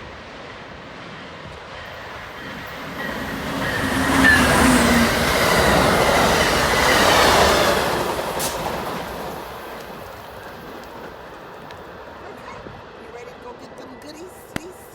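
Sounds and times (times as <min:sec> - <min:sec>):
train passing at speed: 0:00.0 - 0:14.9.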